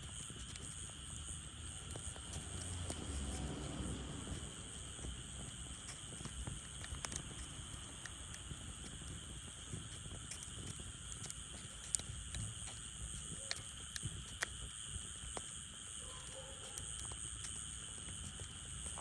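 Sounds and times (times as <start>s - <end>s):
fire pops and snaps: 0.0s - 19.0s
firewood crackling: 0.0s - 19.0s.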